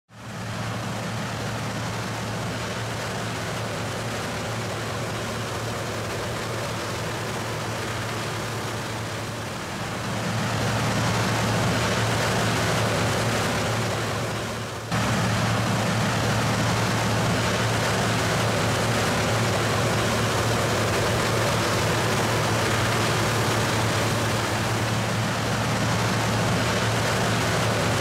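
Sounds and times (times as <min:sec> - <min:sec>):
farm machinery engine hum: 0:00.1 - 0:28.0.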